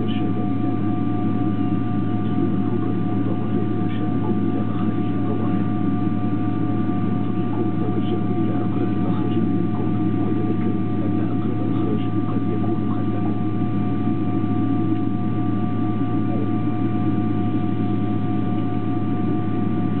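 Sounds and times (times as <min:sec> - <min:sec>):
jet engines idling in cabin: 0:00.0 - 0:20.0.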